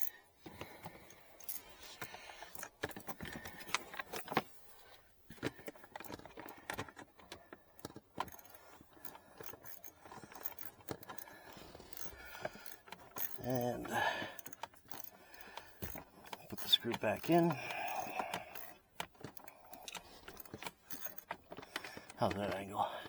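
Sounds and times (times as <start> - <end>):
metal tools clicking and rattling: 0.0 - 4.5, 5.4 - 23.0.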